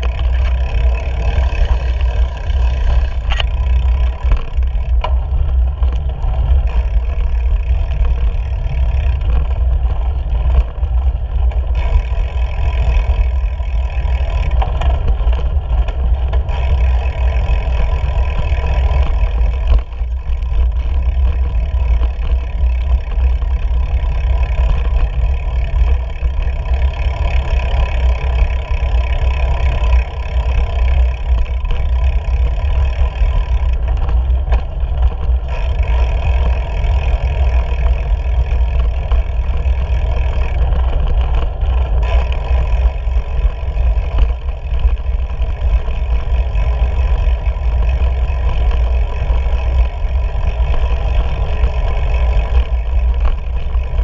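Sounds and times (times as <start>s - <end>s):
bicycle tyre rumble: 0.0s - 54.0s.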